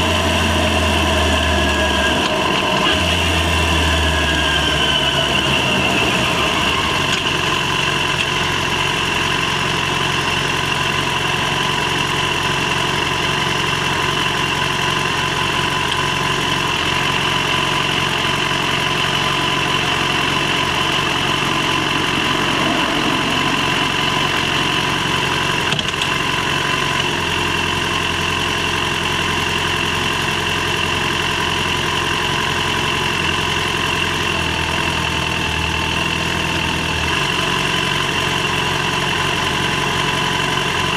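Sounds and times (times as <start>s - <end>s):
motorcycle engine idling: 6.4s - 40.9s.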